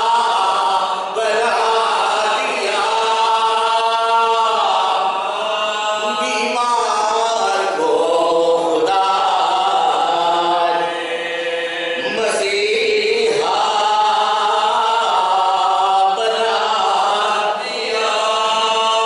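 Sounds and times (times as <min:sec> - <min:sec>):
men chanting together: 0:00.0 - 0:19.0.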